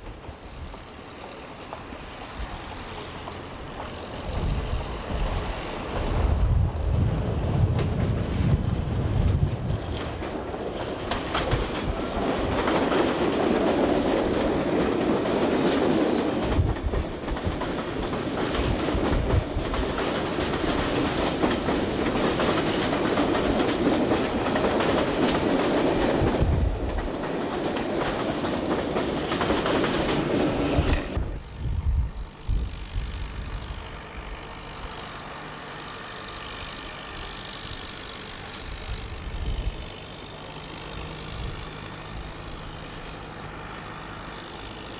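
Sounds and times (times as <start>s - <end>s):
train wheels clacking on rails: 0.0s - 44.9s.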